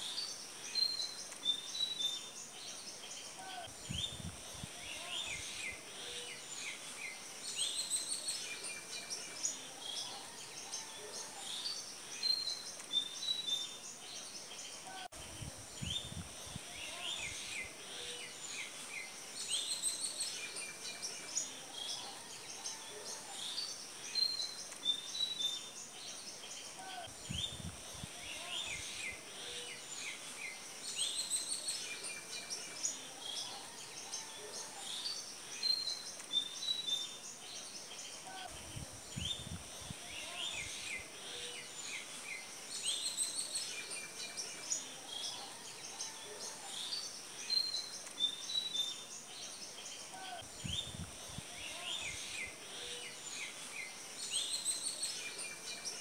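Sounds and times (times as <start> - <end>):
small birds chirping: 0.0 - 56.0
steady high hiss: 0.0 - 56.0.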